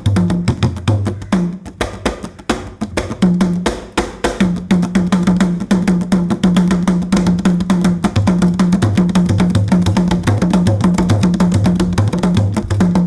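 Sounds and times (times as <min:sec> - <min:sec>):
drums in fast rhythm: 0:00.0 - 0:13.0.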